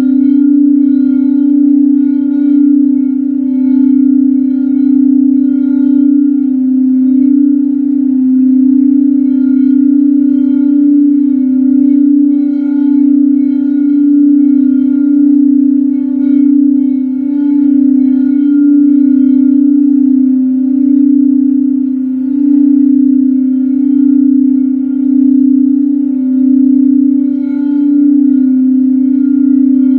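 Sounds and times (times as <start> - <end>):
singing bowl tone: 0.0 - 29.9.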